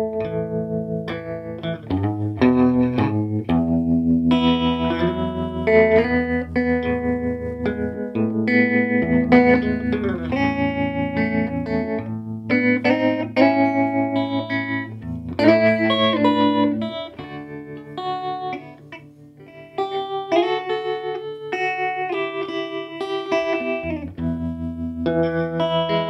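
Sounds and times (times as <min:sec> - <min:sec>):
electric guitar chords with tremolo: 0:00.0 - 0:26.0.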